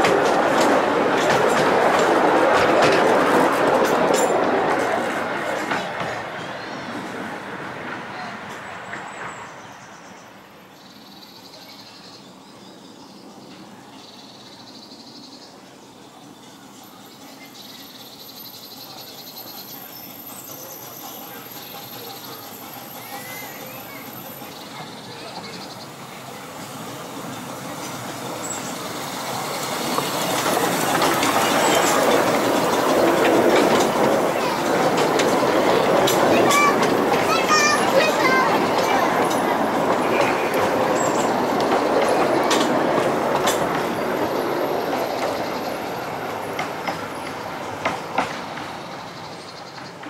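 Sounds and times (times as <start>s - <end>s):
train wheels rumbling and clicking: 0.0s - 9.6s, 16.4s - 50.0s.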